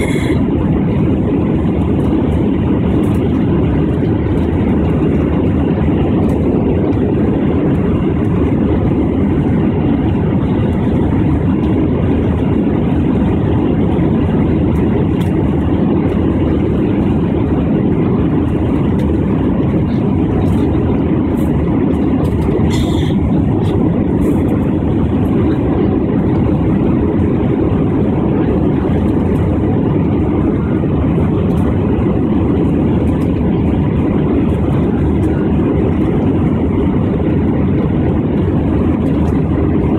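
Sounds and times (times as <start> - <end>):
jet engines droning: 0.0 - 39.9
rushing air: 0.0 - 39.9.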